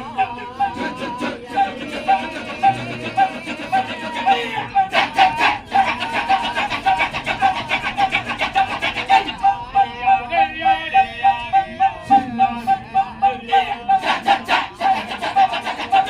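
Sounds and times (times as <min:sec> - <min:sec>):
men chanting in rhythm: 0:00.0 - 0:16.0.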